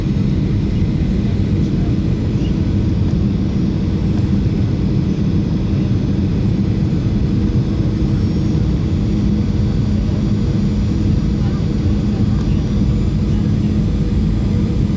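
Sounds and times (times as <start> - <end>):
airplane cabin engine drone: 0.0 - 14.9.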